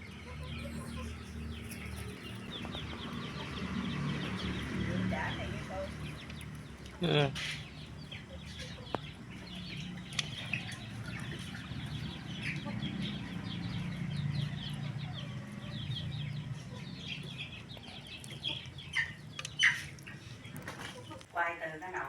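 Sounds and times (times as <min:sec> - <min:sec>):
chickens peeping: 0:00.0 - 0:22.0.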